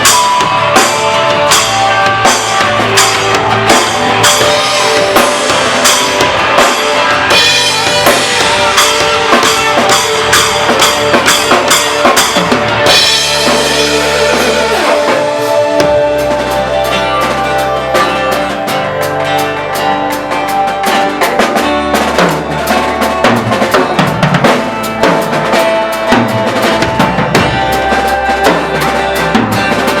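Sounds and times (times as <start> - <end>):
drum kit beat: 0.0 - 30.0
keys or guitar chords: 0.0 - 30.0
sustained bass notes: 0.0 - 30.0.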